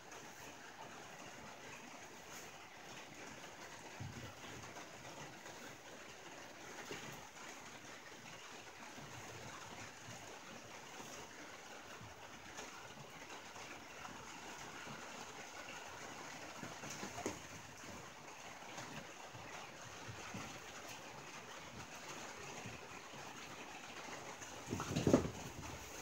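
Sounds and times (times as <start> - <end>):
rain on a tin roof: 0.0 - 26.0.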